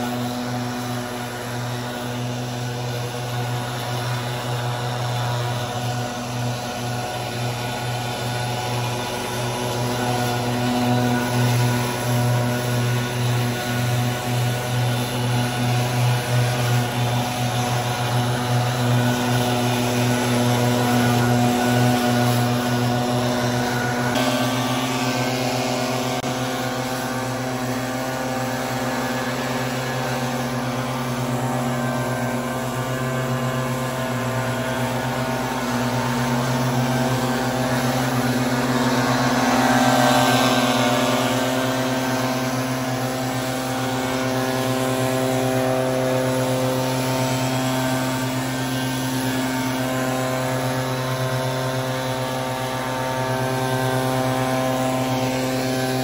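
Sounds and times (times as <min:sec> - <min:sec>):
leaf blower running: 0:00.0 - 0:56.0.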